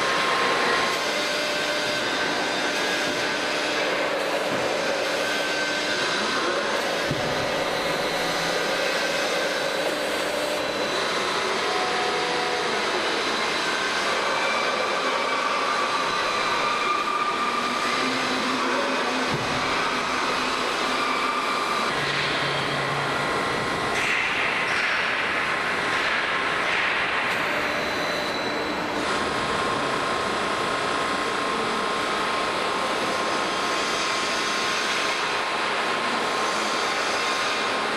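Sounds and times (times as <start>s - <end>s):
faint machine whines: 0.0s - 37.9s
machine mechanical drone: 0.0s - 37.9s.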